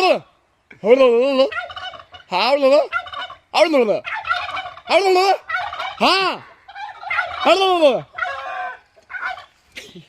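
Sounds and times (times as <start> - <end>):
turkeys gobbling: 0.0 - 9.8
turkeys calling: 0.0 - 10.0.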